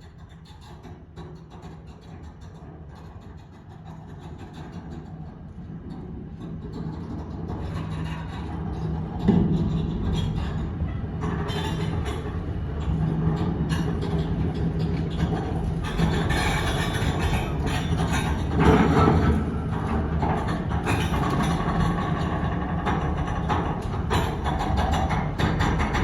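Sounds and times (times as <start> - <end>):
windlass machine hum: 1.0 - 26.0.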